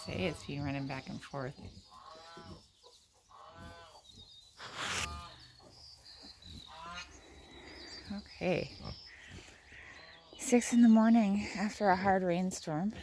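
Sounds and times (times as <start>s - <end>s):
farm animals calling: 0.0s - 13.0s.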